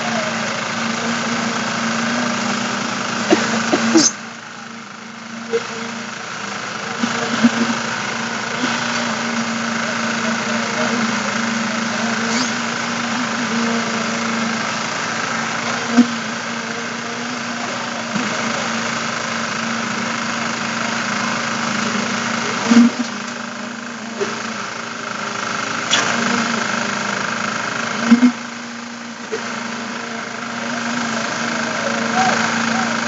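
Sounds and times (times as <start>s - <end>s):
machine engine humming: 0.0s - 33.0s.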